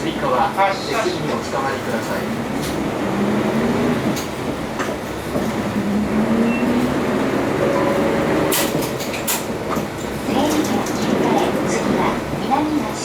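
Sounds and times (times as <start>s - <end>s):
bus diesel engine accelerating: 0.9s - 13.0s.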